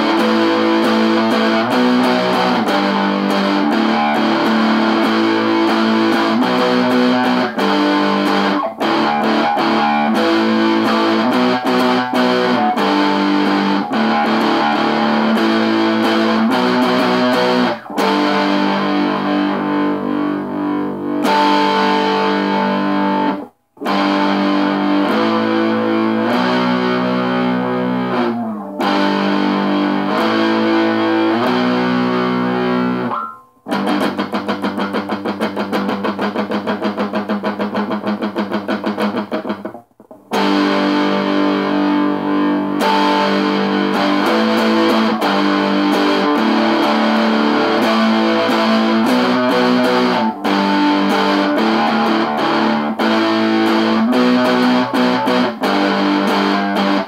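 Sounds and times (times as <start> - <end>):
distorted electric guitar power chords: 0.0 - 57.0.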